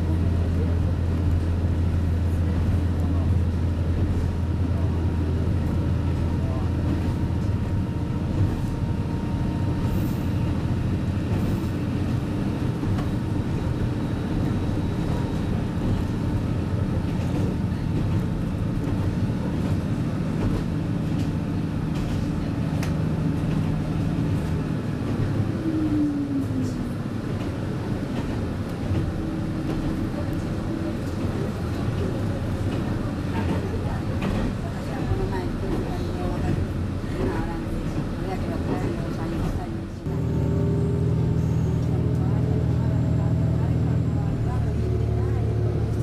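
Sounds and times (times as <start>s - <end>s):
rail rumble: 0.0s - 46.0s
train engine drone: 0.0s - 46.0s.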